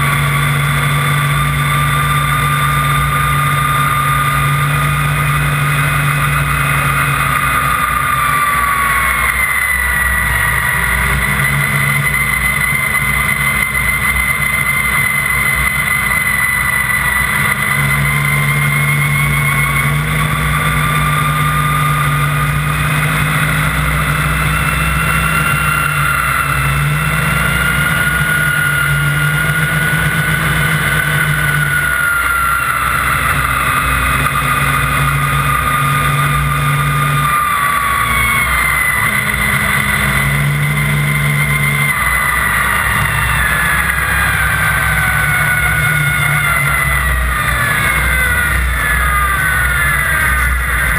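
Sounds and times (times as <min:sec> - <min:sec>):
snowmobile engine whine: 0:00.0 - 0:50.9.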